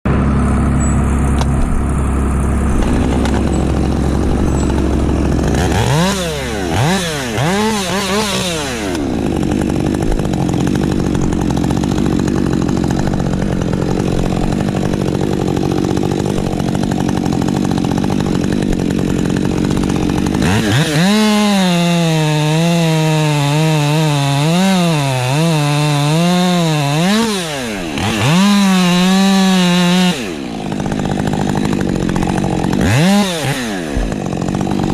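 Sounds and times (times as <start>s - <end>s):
chainsaw revving and cutting wood: 0.1s - 34.9s.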